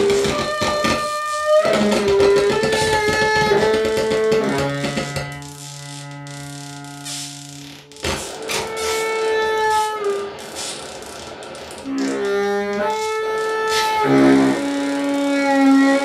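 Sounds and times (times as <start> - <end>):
improvised saxophone and synthesizer music: 0.0 - 16.0.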